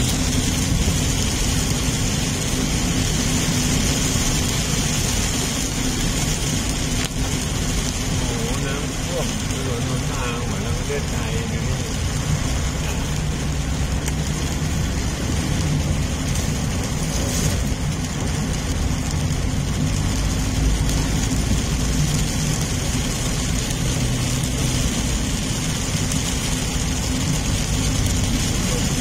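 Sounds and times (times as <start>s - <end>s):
car engine and tyres rumble: 0.0s - 29.0s
rain hissing on car: 0.0s - 29.0s.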